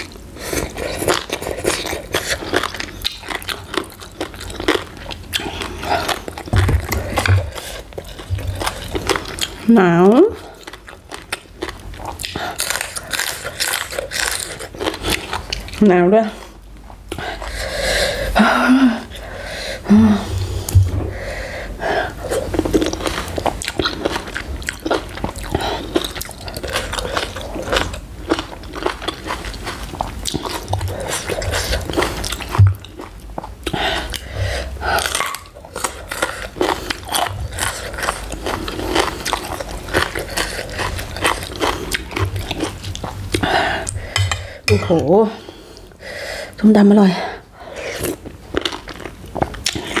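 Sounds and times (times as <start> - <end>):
person chewing and crunching food: 0.0 - 18.4, 19.0 - 46.0, 47.4 - 50.0.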